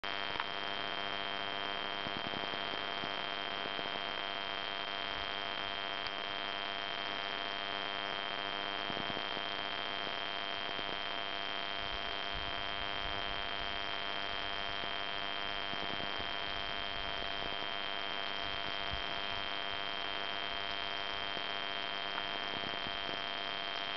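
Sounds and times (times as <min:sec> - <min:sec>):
constant hiss: 0:00.0 - 0:23.9.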